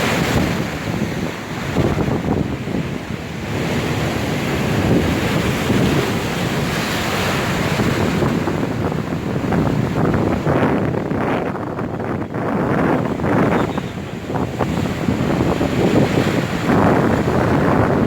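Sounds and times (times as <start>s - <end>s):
storm waves breaking: 0.0s - 18.0s
wind buffeting microphone: 0.0s - 18.0s.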